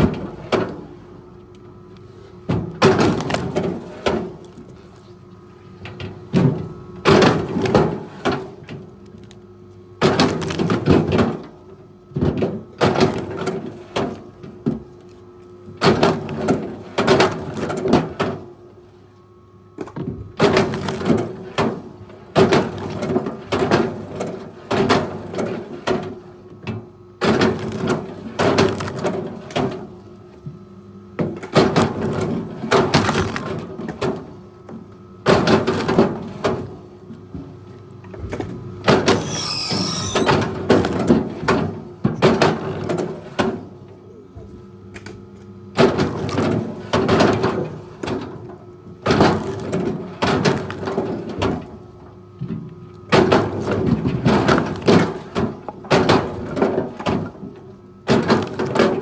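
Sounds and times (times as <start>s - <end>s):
faint machine hum: 0.0s - 59.0s.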